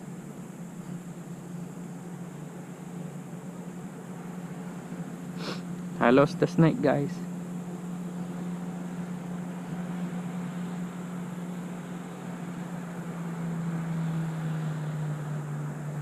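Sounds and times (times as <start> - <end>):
faint hiss: 0.0 - 16.0
low mechanical hum: 0.0 - 16.0.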